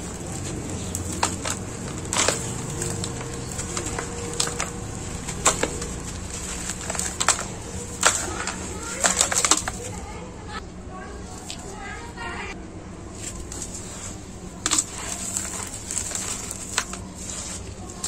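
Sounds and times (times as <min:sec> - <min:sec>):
dry soil crumbling and trickling: 0:00.0 - 0:10.4, 0:13.1 - 0:18.0
soil crunching and crackling: 0:00.0 - 0:10.5, 0:13.1 - 0:18.0.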